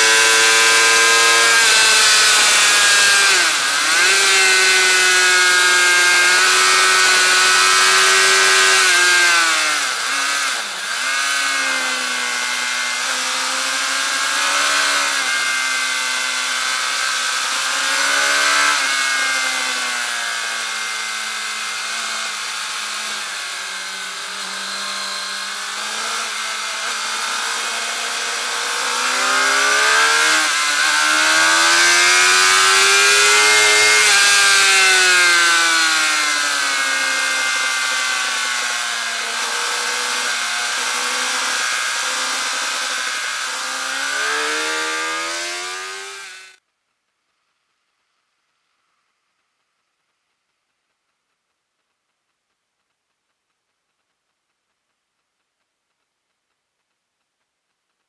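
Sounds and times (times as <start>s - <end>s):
motorcycle engine revving at speed: 0.0s - 46.6s.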